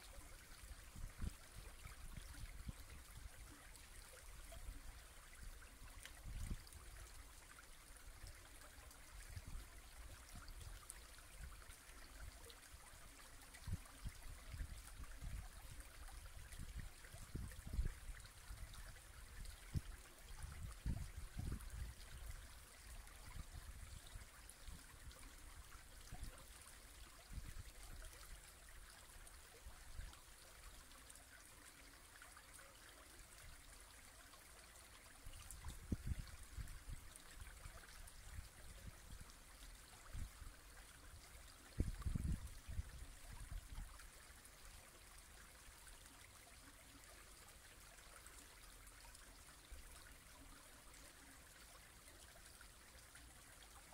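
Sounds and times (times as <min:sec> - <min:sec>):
brook babbling: 0:00.0 - 0:53.9.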